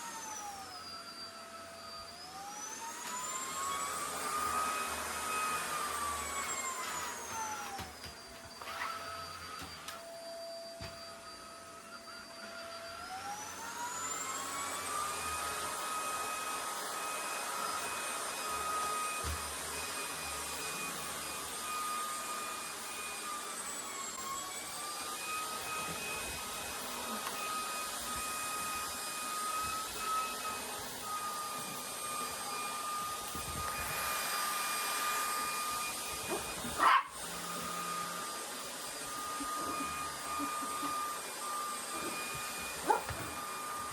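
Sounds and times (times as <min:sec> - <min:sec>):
vacuum cleaner motor whining: 0:00.0 - 0:43.9.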